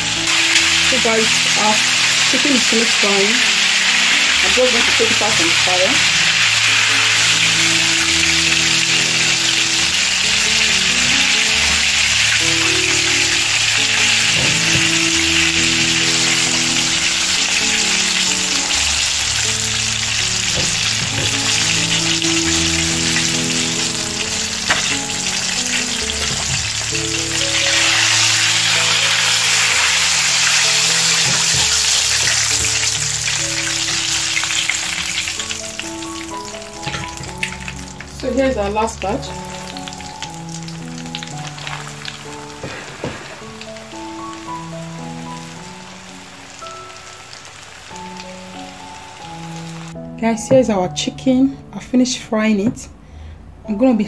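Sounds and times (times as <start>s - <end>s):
oil sizzling: 0.0s - 50.0s
background music: 0.0s - 54.0s.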